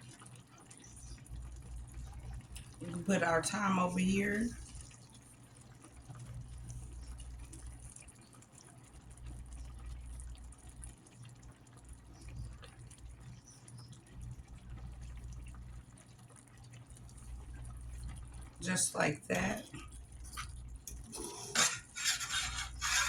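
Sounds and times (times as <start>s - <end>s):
small crackles: 0.0s - 2.9s, 4.0s - 18.7s, 19.5s - 23.0s
low steady hum: 0.0s - 23.0s
pot bubbling: 0.0s - 23.0s.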